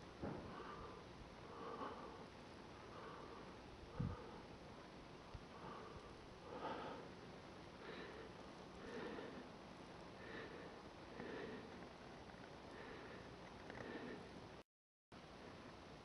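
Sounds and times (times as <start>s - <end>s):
low steady hiss: 0.0s - 14.6s, 15.2s - 16.0s
faint breathing: 0.2s - 14.6s.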